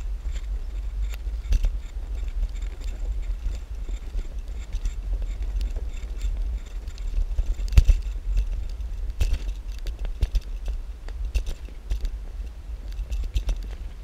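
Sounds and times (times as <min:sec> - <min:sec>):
bicycle rattling over gravel: 0:00.0 - 0:14.0
wind rumble on microphone: 0:00.0 - 0:14.0.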